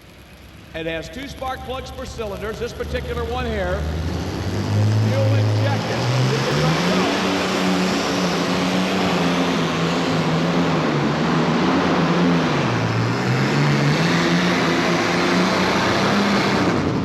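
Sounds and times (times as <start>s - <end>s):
tractor engine running hard: 0.0s - 17.0s.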